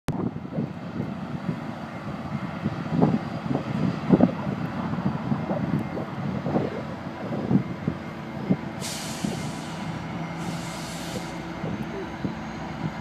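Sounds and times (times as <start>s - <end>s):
diesel train low rumble: 0.1s - 13.0s
wind gusts on microphone: 0.1s - 13.0s.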